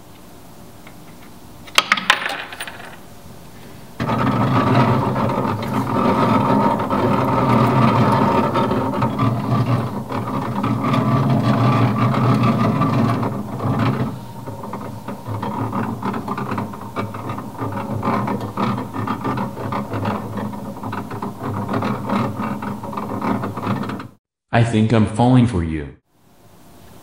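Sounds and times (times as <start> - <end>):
mechanism humming with rapid ticking: 0.0 - 24.2.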